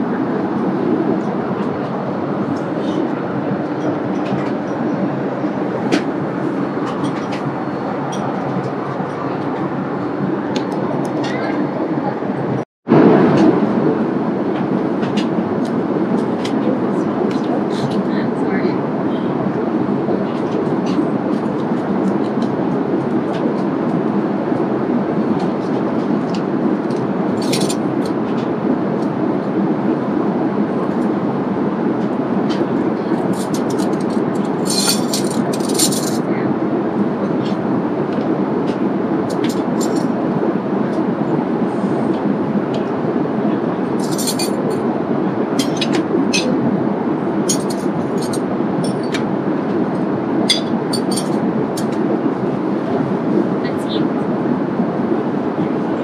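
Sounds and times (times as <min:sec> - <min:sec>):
airplane cabin noise: 0:00.0 - 0:56.0.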